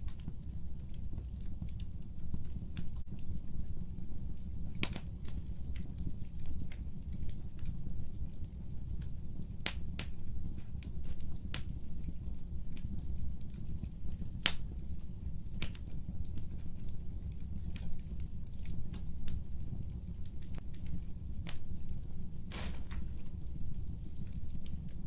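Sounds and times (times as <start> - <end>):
fire popping and snapping: 0.0 - 25.0
low rumble of flames: 0.0 - 25.0.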